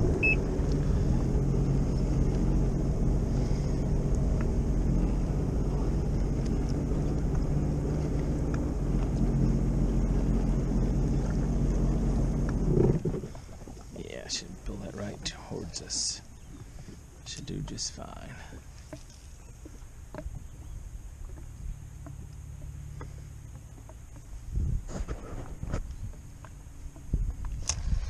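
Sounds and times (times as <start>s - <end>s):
watercraft engine running: 0.0s - 28.0s.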